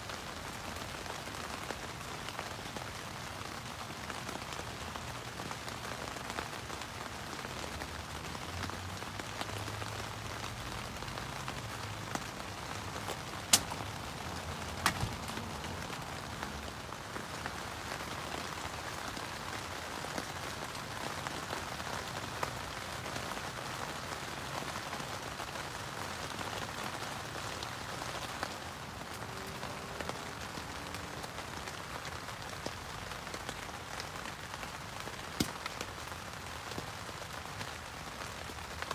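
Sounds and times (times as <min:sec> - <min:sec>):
rain falling on tent: 0:00.0 - 0:38.9.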